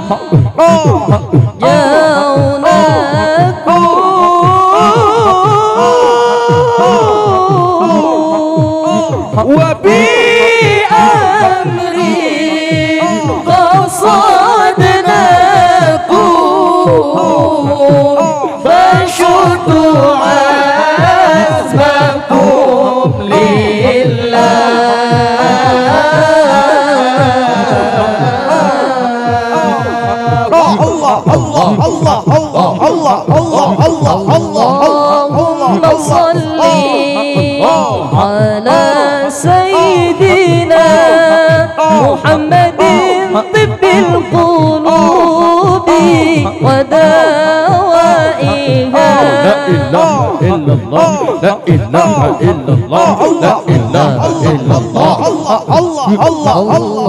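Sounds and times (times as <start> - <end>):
low drum beat: 0.0 - 57.0
person singing ornamented melody: 0.0 - 57.0
voices chanting: 0.0 - 57.0.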